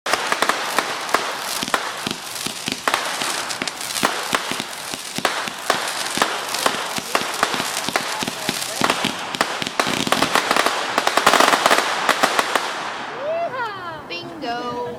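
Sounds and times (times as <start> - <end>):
fireworks bangs and pops: 0.0 - 13.2
fireworks crackling hiss: 0.1 - 13.4.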